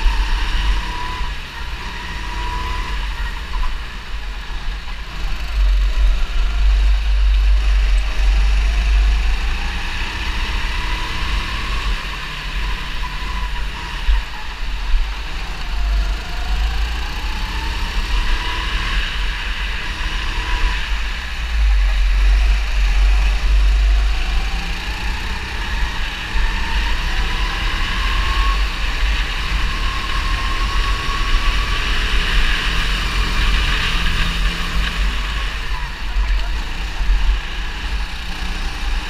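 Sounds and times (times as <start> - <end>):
kart engine revving: 0.0 - 39.0
other kart engines: 0.0 - 39.0.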